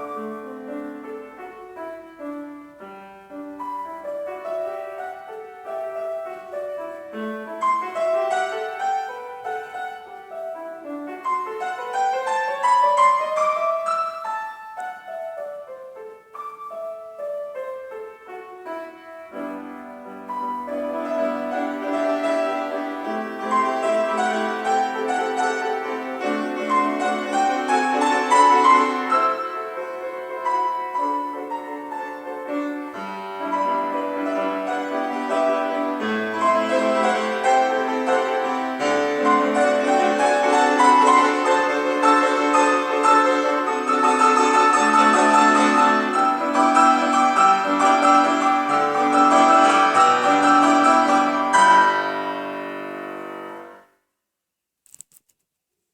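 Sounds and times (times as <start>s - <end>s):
solo piano piece: 0.0s - 54.0s.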